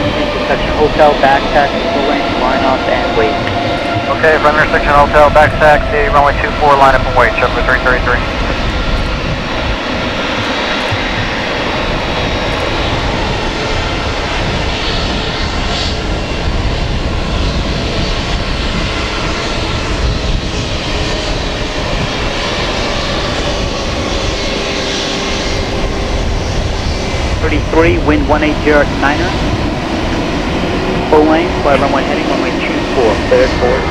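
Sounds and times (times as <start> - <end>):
jet engines taxiing: 0.0 - 33.9.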